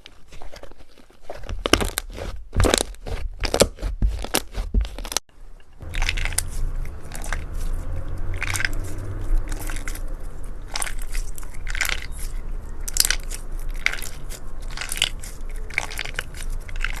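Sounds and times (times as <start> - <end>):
slime squishing and crackling: 0.0 - 5.2, 5.8 - 17.0.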